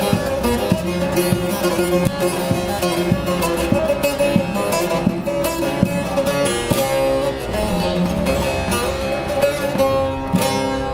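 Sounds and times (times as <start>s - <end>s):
plucked lute melody: 0.0s - 10.9s.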